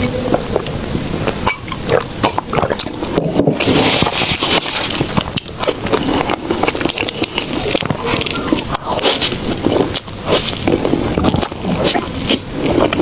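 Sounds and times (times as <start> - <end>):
wet chewing and mouth sounds: 0.0 - 13.0.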